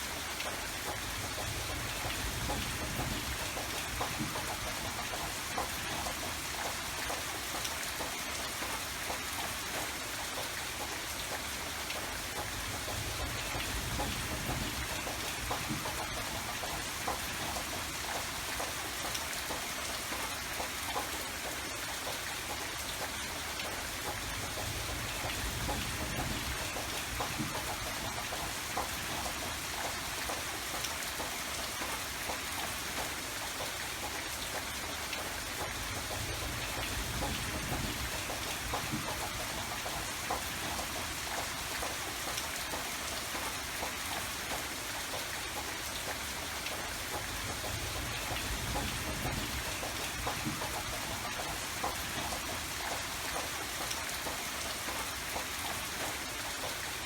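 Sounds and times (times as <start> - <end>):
rain drops on a surface: 0.0 - 57.0.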